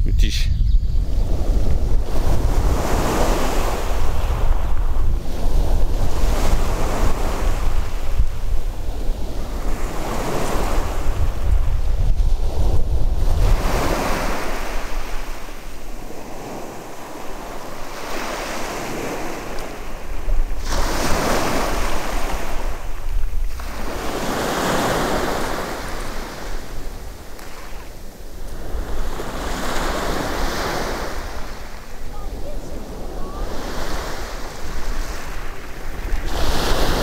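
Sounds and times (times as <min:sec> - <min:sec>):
wind buffeting microphone: 0:00.0 - 0:37.0
sea waves washing in: 0:01.0 - 0:37.0.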